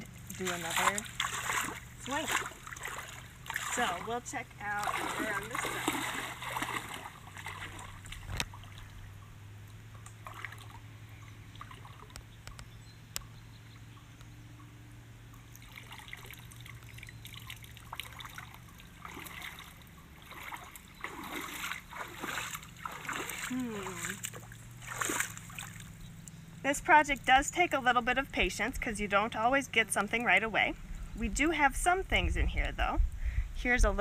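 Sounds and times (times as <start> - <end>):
wading splashes: 0.0 - 12.4, 15.3 - 30.7
water trickling and sloshing: 0.0 - 34.0.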